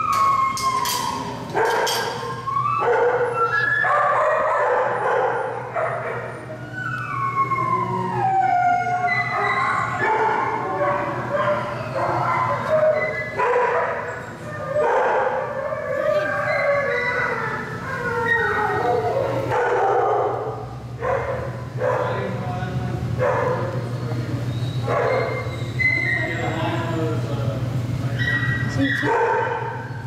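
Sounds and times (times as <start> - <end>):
dogs howling: 0.0 - 22.5, 23.1 - 30.0
dogs barking: 0.6 - 7.2, 8.8 - 27.2, 28.1 - 30.0.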